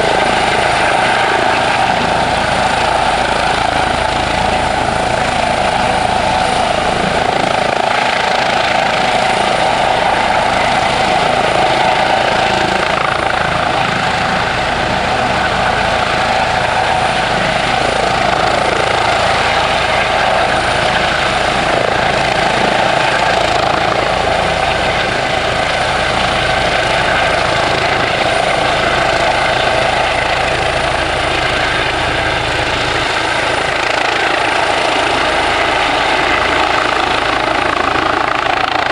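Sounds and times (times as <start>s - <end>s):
helicopter engines and rotors: 0.0s - 38.9s.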